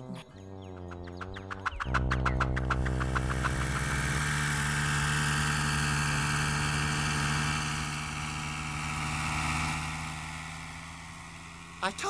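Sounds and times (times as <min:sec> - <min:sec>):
cartoon propeller whirr: 0:00.0 - 0:12.0.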